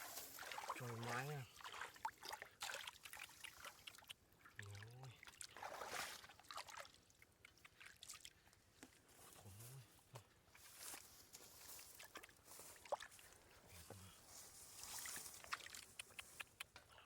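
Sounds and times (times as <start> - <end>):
water trickling and splashing: 0.0 - 9.2, 10.5 - 16.6.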